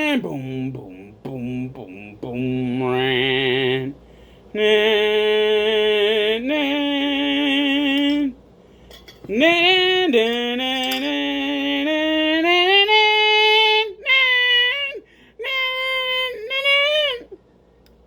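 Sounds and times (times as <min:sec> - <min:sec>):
person singing wordless tune: 0:00.0 - 0:08.4, 0:09.2 - 0:17.4.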